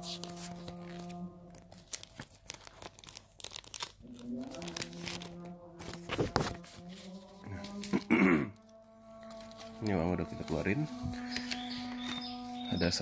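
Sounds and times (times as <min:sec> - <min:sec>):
packaging crinkling: 0:00.0 - 0:12.6.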